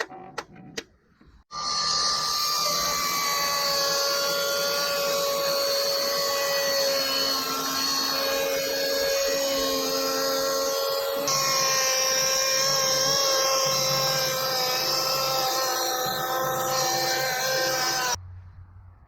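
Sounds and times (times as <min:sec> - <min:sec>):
electric chainsaw whining: 0:01.5 - 0:18.2.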